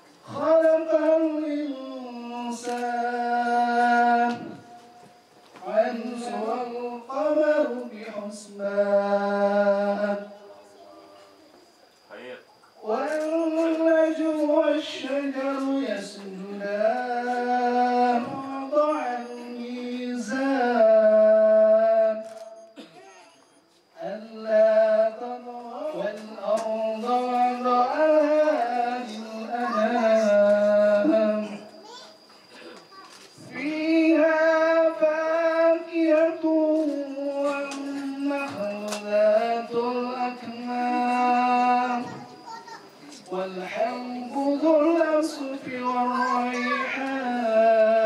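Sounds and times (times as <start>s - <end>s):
man chanting into a microphone: 0.2s - 4.8s, 5.6s - 10.3s, 12.8s - 22.2s, 24.0s - 31.7s, 33.4s - 42.2s, 43.2s - 48.0s
person singing slow melody: 0.2s - 10.6s, 12.8s - 22.5s, 24.0s - 48.0s.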